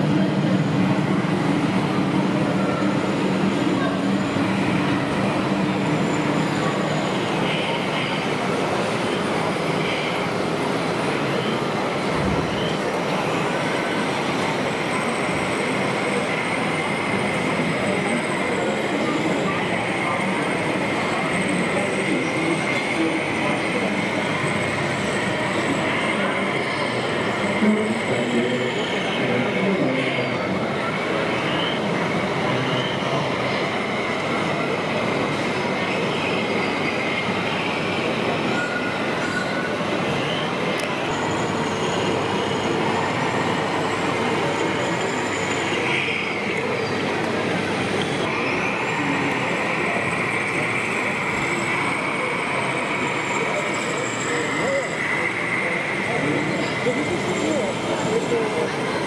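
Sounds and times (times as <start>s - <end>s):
busy exhibition hall din: 0.0s - 59.0s.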